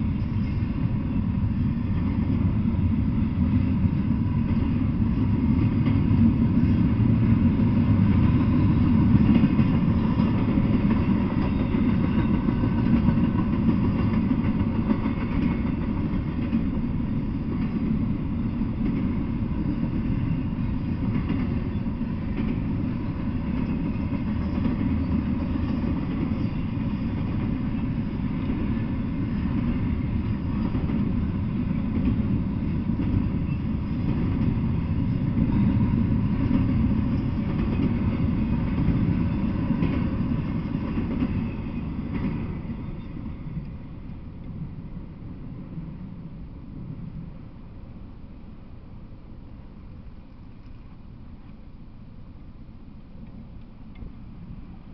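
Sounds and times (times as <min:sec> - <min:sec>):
freight train rolling past: 0:00.0 - 0:54.9.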